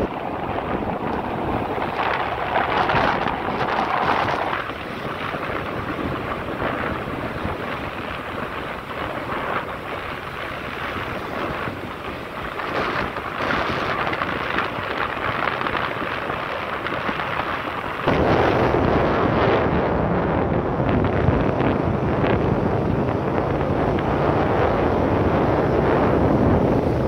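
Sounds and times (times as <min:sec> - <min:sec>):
motorcycle running: 0:00.0 - 0:27.0
wind buffeting microphone: 0:00.0 - 0:27.0.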